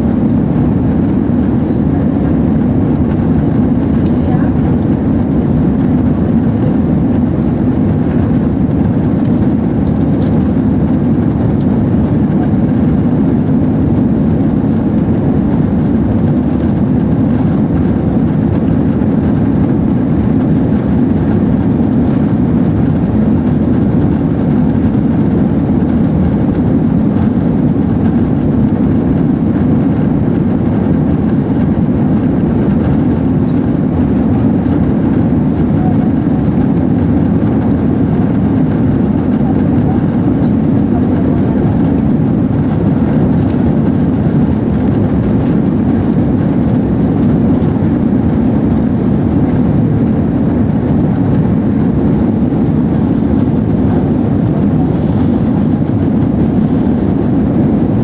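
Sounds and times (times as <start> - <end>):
jet engine and airflow roar: 0.0 - 58.0.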